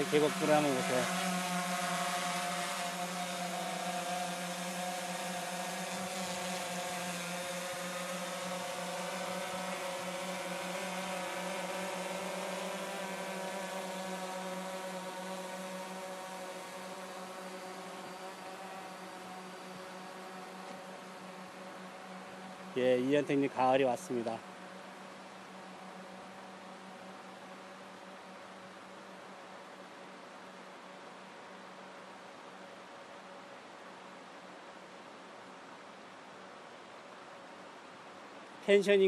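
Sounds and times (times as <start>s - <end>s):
drone propellers humming: 0.0s - 35.0s.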